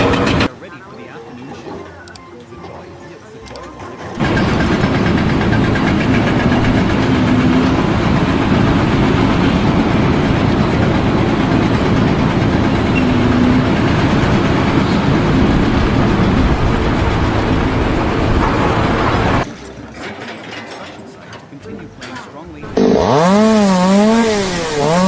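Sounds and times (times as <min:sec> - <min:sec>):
machinery running: 0:00.0 - 0:01.2, 0:03.5 - 0:25.0
faint hum: 0:00.0 - 0:20.2.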